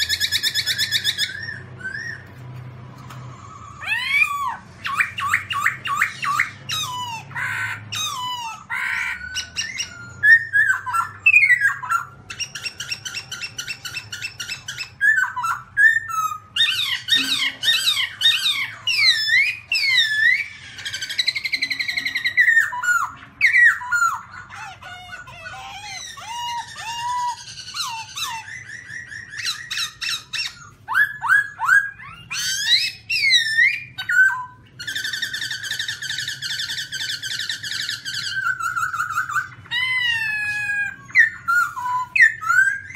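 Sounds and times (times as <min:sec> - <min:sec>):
bird singing whistles and trills: 0:00.0 - 0:42.9.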